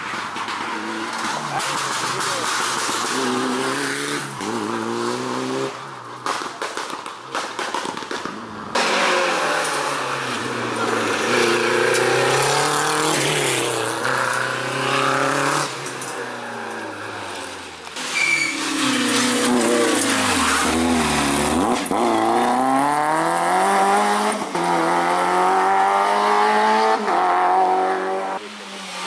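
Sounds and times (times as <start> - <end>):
rally car engine revving: 0.1 - 29.0.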